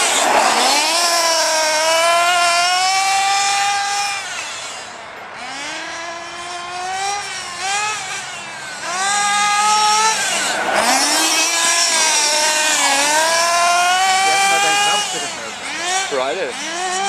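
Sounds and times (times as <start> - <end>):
small nitro engine revving: 0.0 - 17.0.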